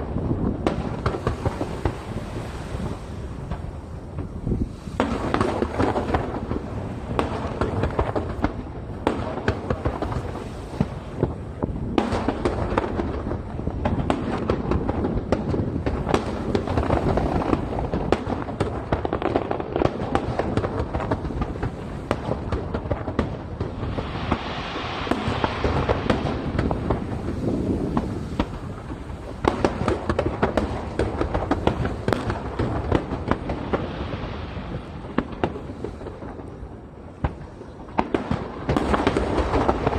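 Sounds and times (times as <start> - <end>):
fireworks booms and bangs: 0.0 - 39.9
fireworks crackling: 0.0 - 39.9.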